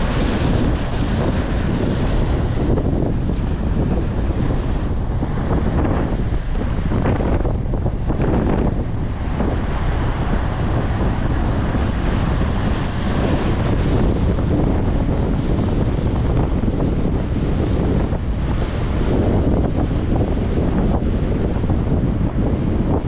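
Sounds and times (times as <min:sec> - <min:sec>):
rushing water: 0:00.0 - 0:23.0
wind buffeting microphone: 0:00.0 - 0:23.0.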